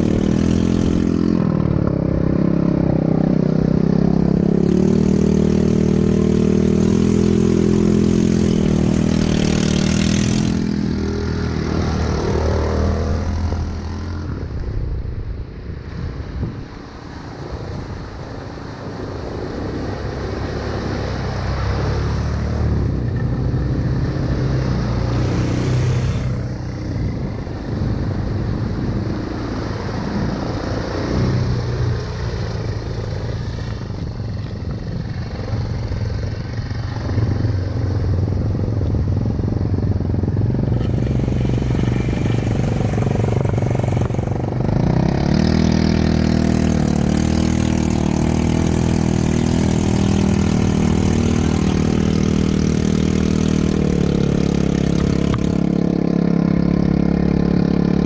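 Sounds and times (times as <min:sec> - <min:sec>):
atv engine running: 0:00.0 - 0:15.0, 0:16.5 - 0:58.0.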